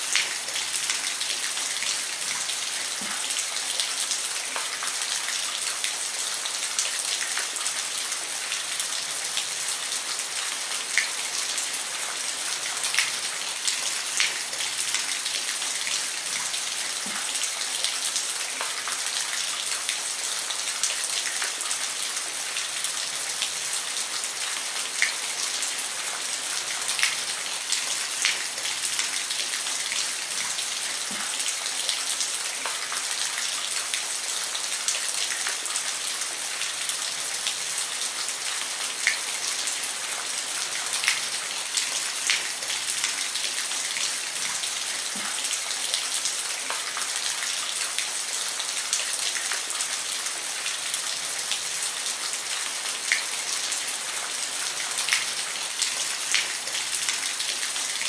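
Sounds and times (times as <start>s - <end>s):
rain falling on a roof: 0.0s - 58.0s.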